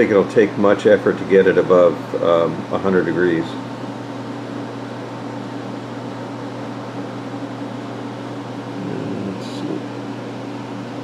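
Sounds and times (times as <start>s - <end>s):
fan whirring: 0.0s - 11.0s
low even hum: 0.0s - 11.0s.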